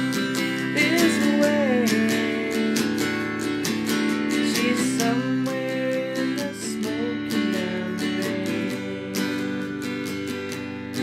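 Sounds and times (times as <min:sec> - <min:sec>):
electric guitar strumming chords: 0:00.0 - 0:11.0.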